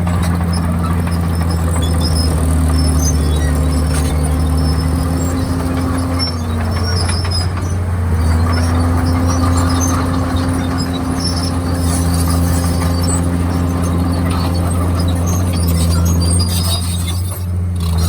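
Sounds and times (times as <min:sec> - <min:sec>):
bulldozer diesel engine: 0:00.0 - 0:18.0.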